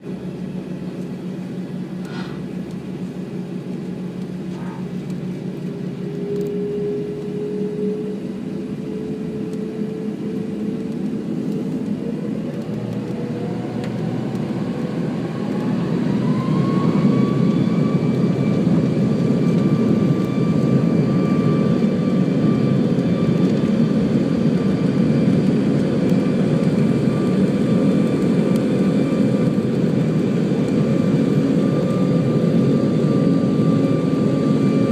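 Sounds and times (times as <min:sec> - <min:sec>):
jet engines spooling up: 0:00.2 - 0:34.9.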